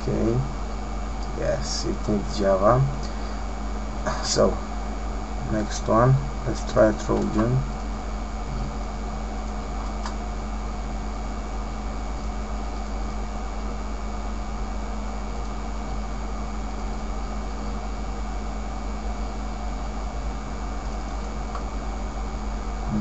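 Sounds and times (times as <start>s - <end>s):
background hum and hiss: 0.0s - 23.0s.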